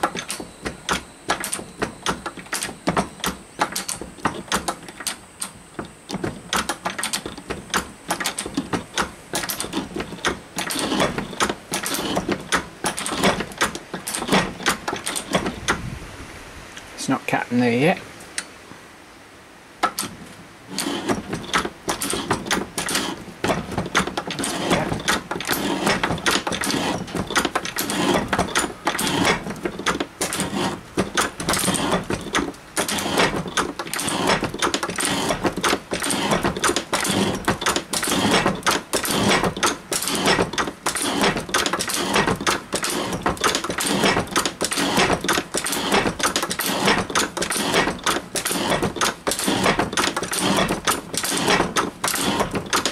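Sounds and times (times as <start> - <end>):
metal shaper rhythmic clatter: 0.0 - 15.6, 20.7 - 52.9.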